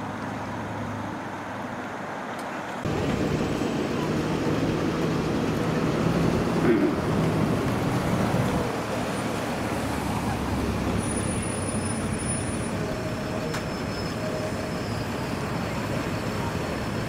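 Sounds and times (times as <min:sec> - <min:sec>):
street traffic noise: 0:00.0 - 0:17.0
tram rolling on track: 0:01.6 - 0:17.0.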